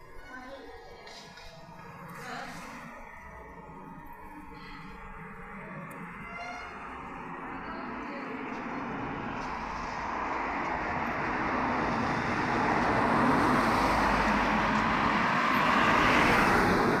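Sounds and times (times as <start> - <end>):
car approaching: 1.0 - 17.0.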